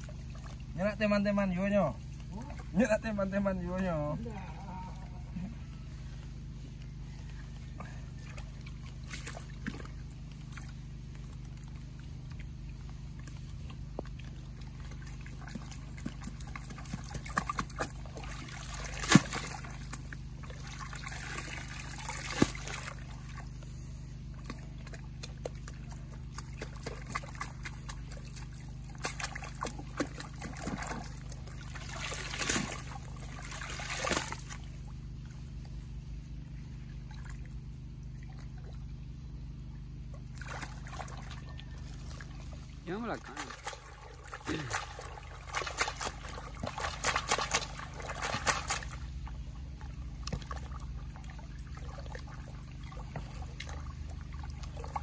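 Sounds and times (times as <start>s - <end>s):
muddy water sloshing and splashing: 0.0s - 55.0s
steady low hum: 0.0s - 55.0s.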